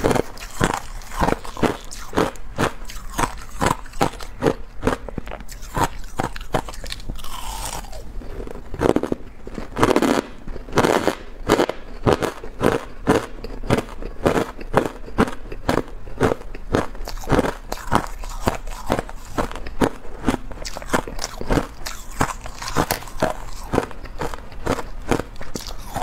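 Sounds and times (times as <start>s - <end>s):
ice crunching in mouth: 0.0s - 26.0s.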